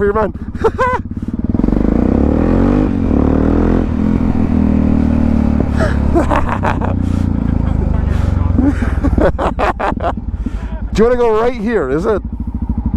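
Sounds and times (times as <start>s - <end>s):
motorcycle engine accelerating: 0.0s - 12.9s.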